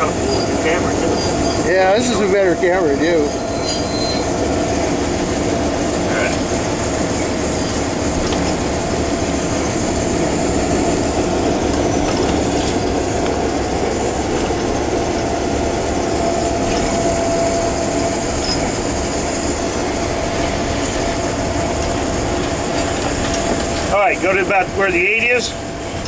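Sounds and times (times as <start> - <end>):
locomotive engine drone: 0.0 - 26.0
steady whine: 0.0 - 26.0.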